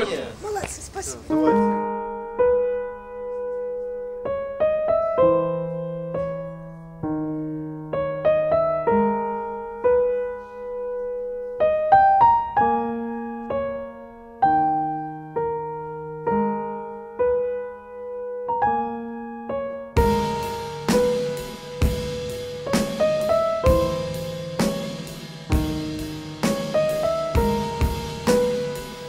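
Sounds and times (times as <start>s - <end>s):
piano melody: 0.0s - 29.0s.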